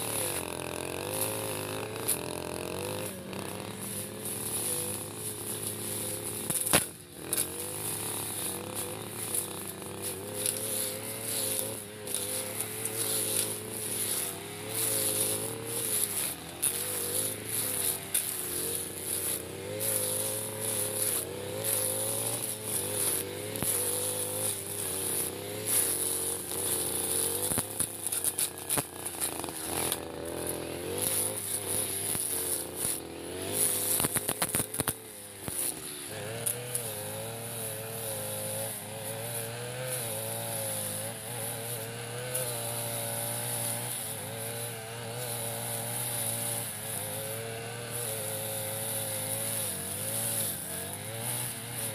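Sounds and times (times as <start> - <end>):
brush cutter engine running: 0.0 - 51.9.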